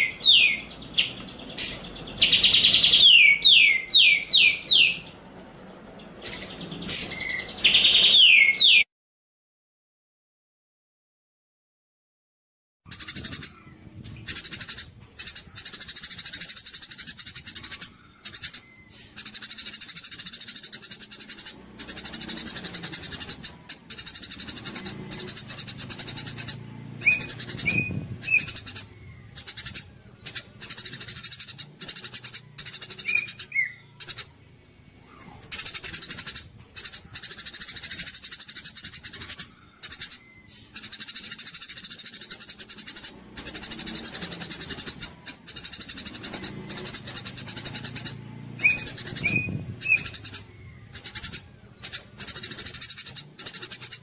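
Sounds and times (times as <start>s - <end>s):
sparrow buzzing trills: 0.0s - 8.8s, 12.9s - 54.0s
sparrow low chirps: 0.0s - 8.9s, 12.9s - 54.0s.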